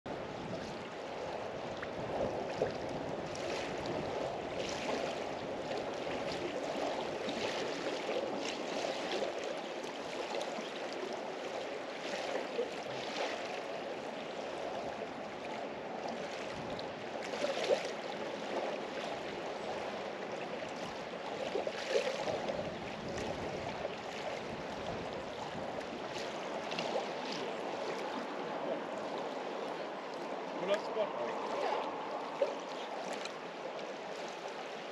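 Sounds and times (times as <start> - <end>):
water lapping and rushing: 0.1 - 34.9
bright water splashes: 2.4 - 13.8, 16.1 - 34.9.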